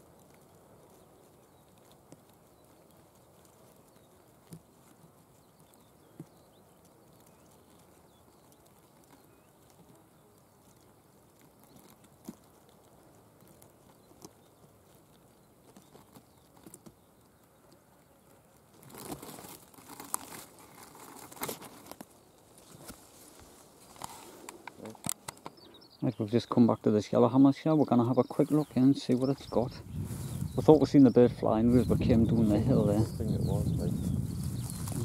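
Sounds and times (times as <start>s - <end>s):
leaves rustling and crackling: 0.0s - 35.0s.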